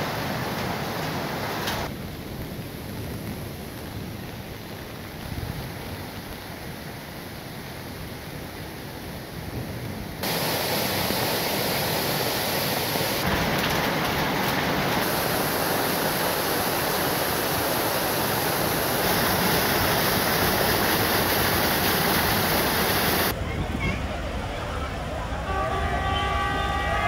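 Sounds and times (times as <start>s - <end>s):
rainwater runoff rushing: 0.0s - 23.4s
heavy rain pouring: 0.0s - 25.4s.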